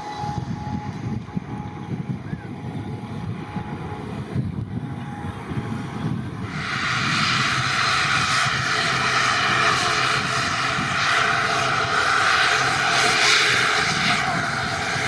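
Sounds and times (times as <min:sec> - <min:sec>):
low propeller drone: 0:00.0 - 0:15.0
turboprop engine whine: 0:00.0 - 0:15.0.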